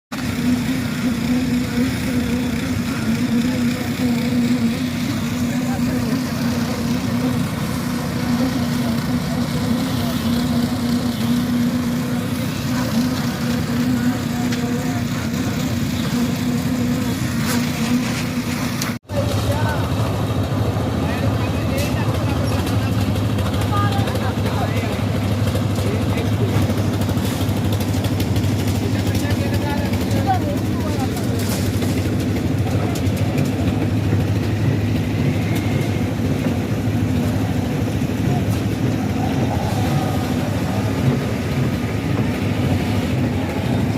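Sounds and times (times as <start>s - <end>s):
construction machinery drone: 0.1s - 43.9s
heavy diesel engine running: 0.1s - 43.9s.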